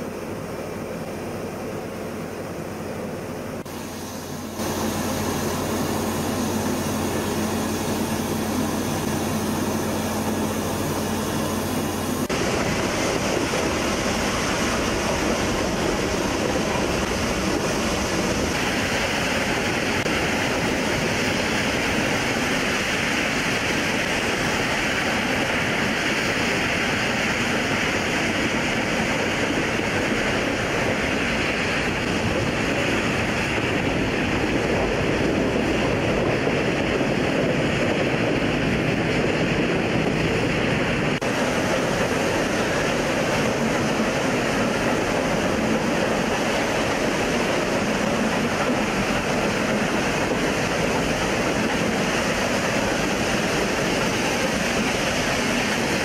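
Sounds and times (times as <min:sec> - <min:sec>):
train running along track: 0:00.0 - 0:56.0
hiss of venting steam: 0:03.6 - 0:35.2, 0:40.0 - 0:56.0.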